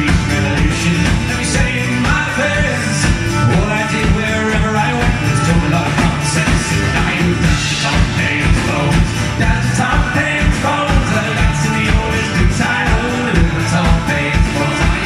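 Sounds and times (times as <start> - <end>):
acoustic guitar: 0.0 - 15.0
banjo: 0.0 - 15.0
drum kit beat: 0.0 - 15.0
mandolin: 0.0 - 15.0.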